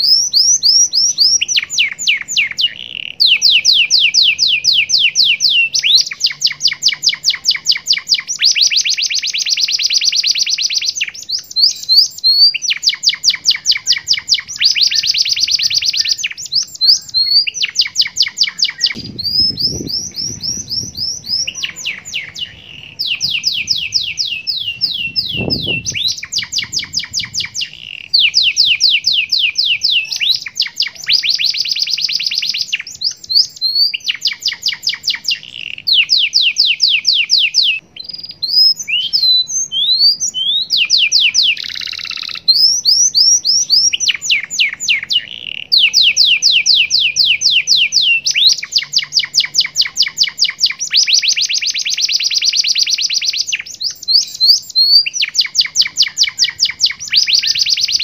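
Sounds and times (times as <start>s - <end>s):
canary chirps: 0.0s - 58.0s
canary singing trills: 0.0s - 58.0s.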